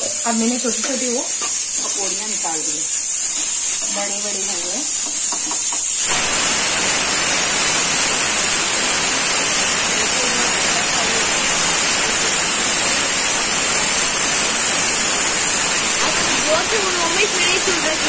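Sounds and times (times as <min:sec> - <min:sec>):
batter sizzling in hot oil: 0:00.0 - 0:18.0.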